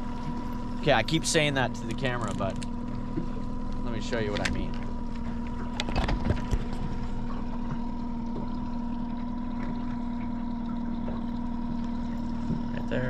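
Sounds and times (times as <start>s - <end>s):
boat motor running: 0.0s - 13.0s
water noise: 0.0s - 13.0s.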